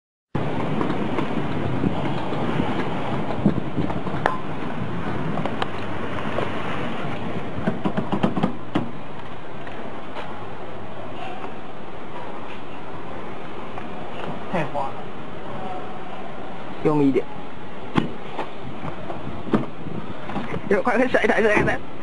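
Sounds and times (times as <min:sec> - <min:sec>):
rumbling vehicle noise: 0:00.3 - 0:22.0.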